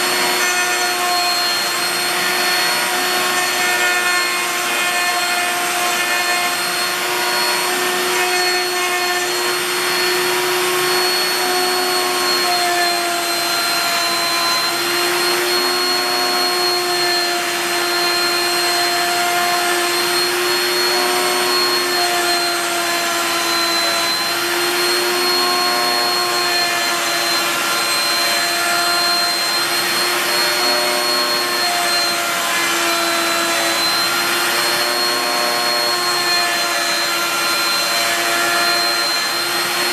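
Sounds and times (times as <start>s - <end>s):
router motor whining: 0.0s - 39.9s.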